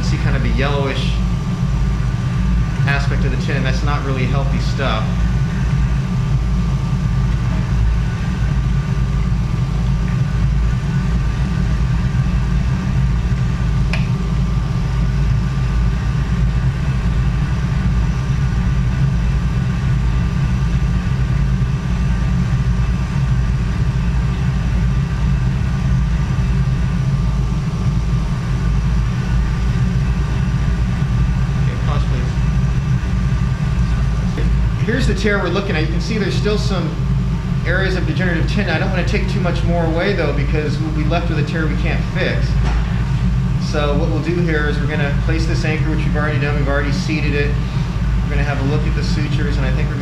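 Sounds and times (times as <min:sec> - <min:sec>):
low equipment hum: 0:00.0 - 0:50.0.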